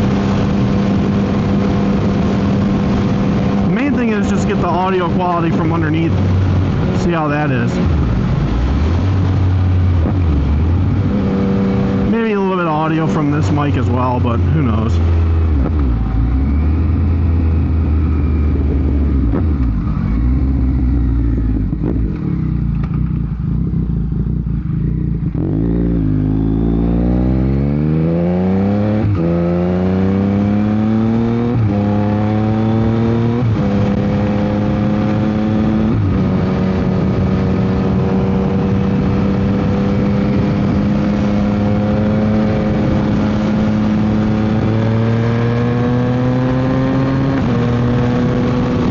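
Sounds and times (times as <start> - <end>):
wind noise on microphone: 0.0 - 12.1, 15.1 - 48.9
motorcycle engine accelerating: 0.0 - 48.9.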